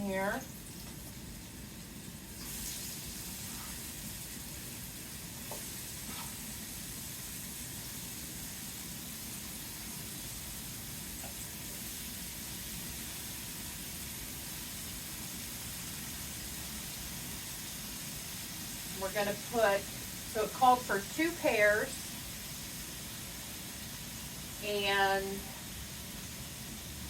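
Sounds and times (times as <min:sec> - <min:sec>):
pears sizzling in a skillet: 0:00.0 - 0:27.0.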